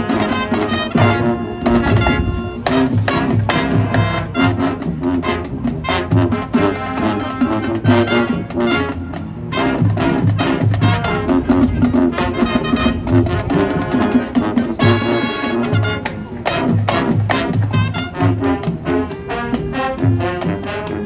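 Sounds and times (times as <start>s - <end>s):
drumline percussion: 0.0s - 21.0s
marching band brass horns: 0.0s - 21.0s.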